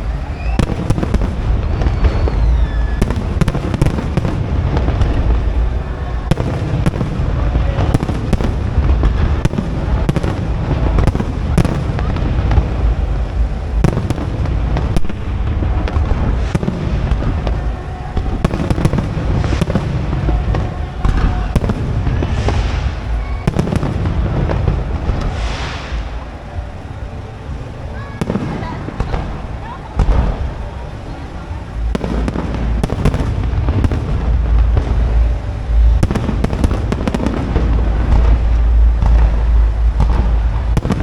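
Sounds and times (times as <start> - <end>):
fireworks bursting with sharp bangs: 0.0 - 41.0
fireworks hissing: 0.0 - 41.0
low rumble: 0.0 - 41.0.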